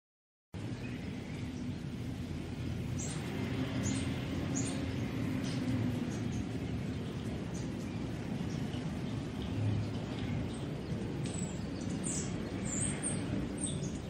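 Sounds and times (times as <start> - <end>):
birds chirping: 0.6 - 14.0.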